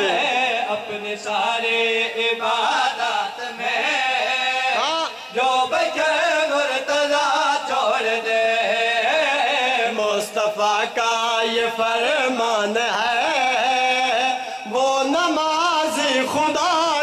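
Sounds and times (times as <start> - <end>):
men chanting: 0.0 - 17.0.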